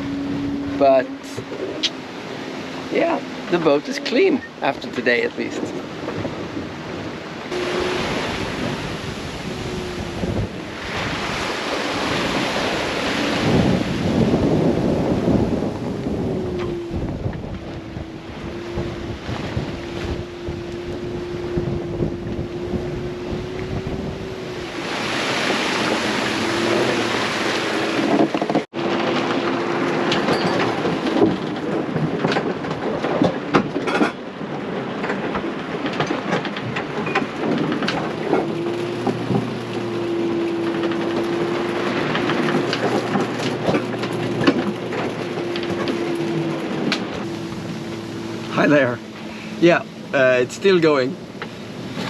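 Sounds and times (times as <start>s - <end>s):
heavy rain and wind: 0.0s - 52.0s.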